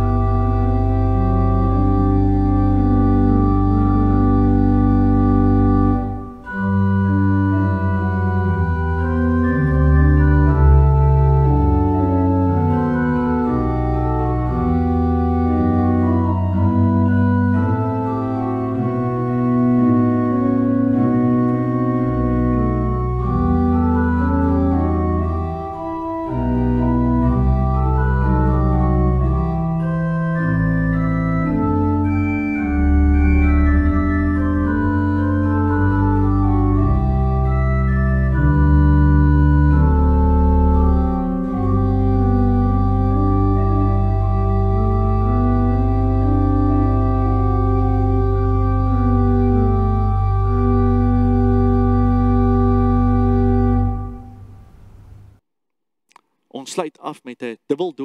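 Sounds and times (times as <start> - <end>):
organ playing slow chords: 0.0 - 55.3.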